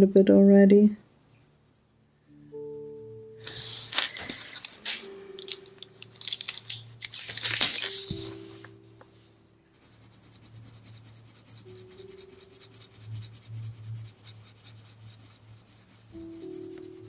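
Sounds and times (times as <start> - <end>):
pencil shading on paper: 0.0 - 4.6, 7.7 - 17.0.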